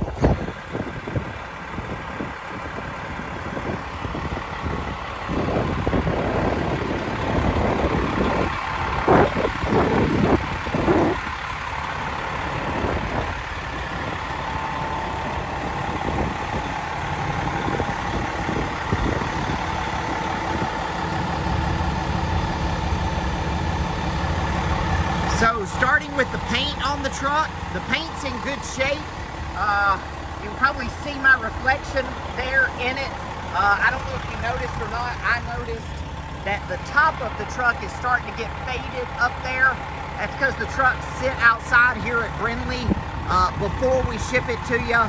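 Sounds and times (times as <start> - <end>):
diesel engine idling: 0.0 - 45.0.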